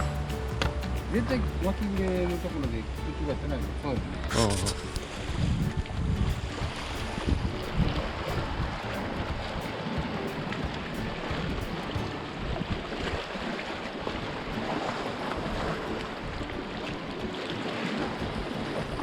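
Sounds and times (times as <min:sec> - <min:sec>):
waves washing against rocks: 0:00.0 - 0:19.0
wind buffeting microphone: 0:00.0 - 0:19.0.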